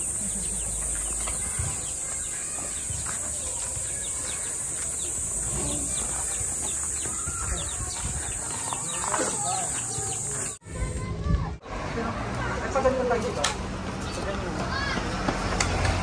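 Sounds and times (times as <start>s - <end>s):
footsteps on dirt path: 0.0s - 10.6s, 13.6s - 16.0s
birds chirping: 0.0s - 16.0s.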